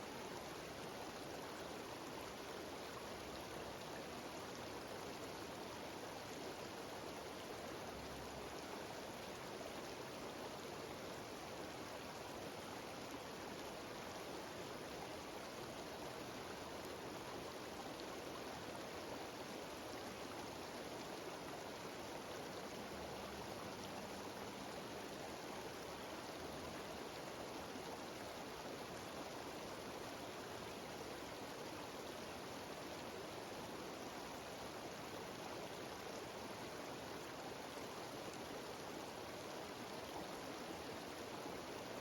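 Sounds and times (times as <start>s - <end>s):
stream and waterfall rushing: 0.0s - 42.0s.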